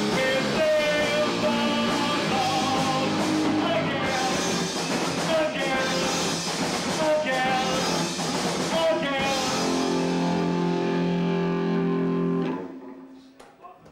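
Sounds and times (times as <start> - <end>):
rock band playing: 0.0 - 13.2.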